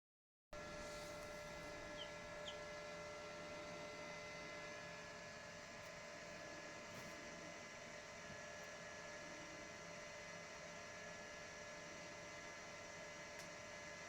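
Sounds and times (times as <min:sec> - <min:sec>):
electrical hum: 0:00.6 - 0:14.0.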